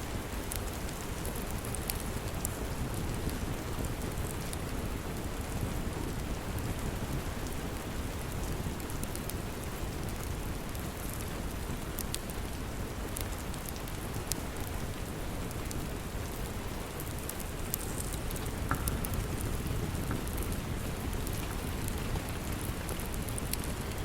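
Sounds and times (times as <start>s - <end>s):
steady rain hiss: 0.0s - 24.0s
wood fire crackling and popping: 0.1s - 24.0s.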